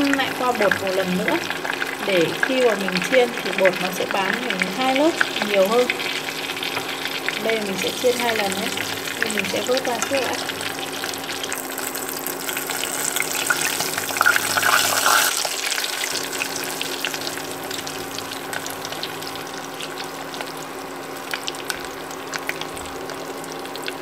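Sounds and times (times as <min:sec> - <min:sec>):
oil sizzling and crackling: 0:00.0 - 0:24.0
popping oil: 0:00.0 - 0:24.0.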